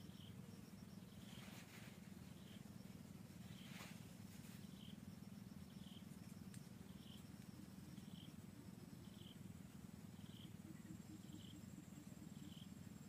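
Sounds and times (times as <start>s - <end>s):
faint low buzz: 0.0s - 13.0s.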